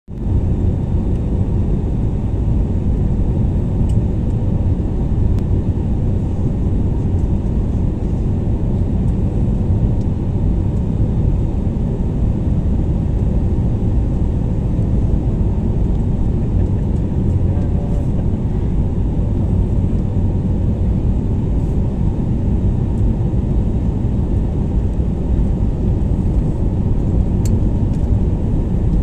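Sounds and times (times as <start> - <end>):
jet engine rumble: 0.1 - 29.0.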